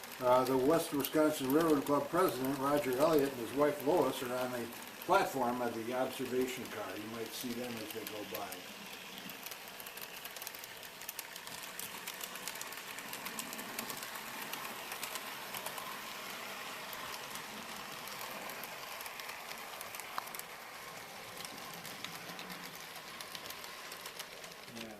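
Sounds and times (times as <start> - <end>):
model train whirring: 0.0 - 24.9
wheels clicking over track: 0.0 - 24.9.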